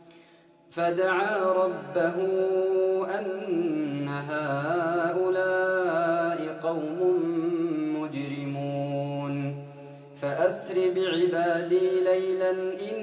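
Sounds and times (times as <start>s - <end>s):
man reciting melodically: 0.7s - 13.0s.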